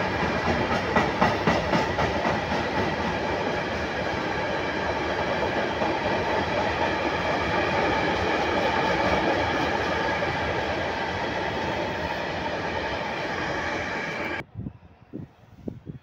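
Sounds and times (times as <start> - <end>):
freight train wheels rumbling: 0.0 - 14.4.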